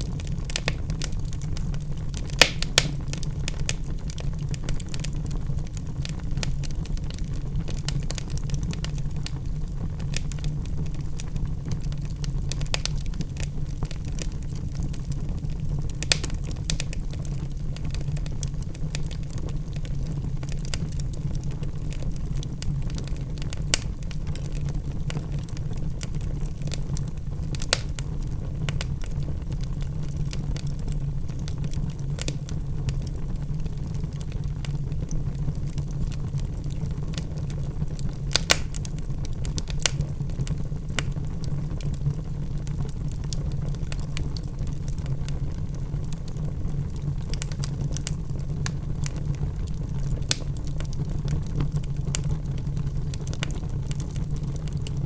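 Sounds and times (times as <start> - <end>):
fire rumbling: 0.0 - 55.0
wood crackling and popping: 0.0 - 55.0.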